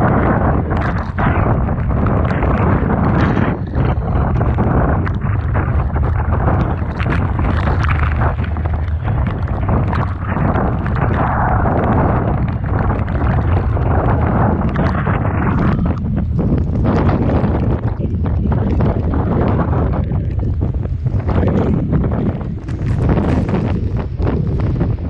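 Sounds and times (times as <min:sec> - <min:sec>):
rough sea and breaking waves: 0:00.0 - 0:25.0
small crackles: 0:00.0 - 0:25.0
strong wind buffeting microphone: 0:00.0 - 0:25.0.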